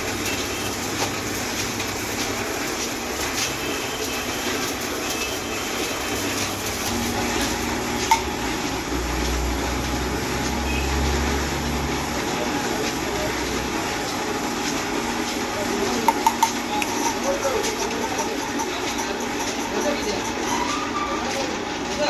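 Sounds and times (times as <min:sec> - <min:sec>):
workshop background noise: 0:00.0 - 0:22.0.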